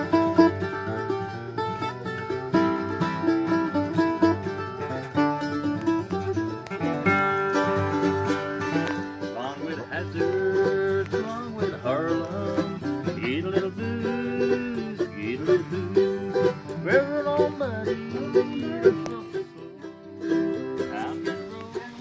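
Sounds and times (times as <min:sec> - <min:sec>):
country acoustic music: 0:00.0 - 0:22.0.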